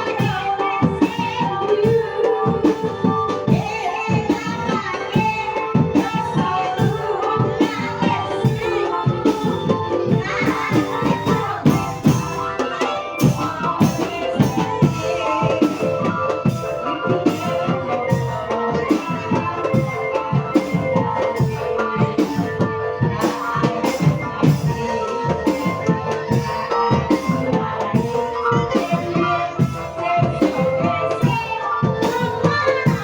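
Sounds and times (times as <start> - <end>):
ringing pitched percussion: 0.0 - 33.0.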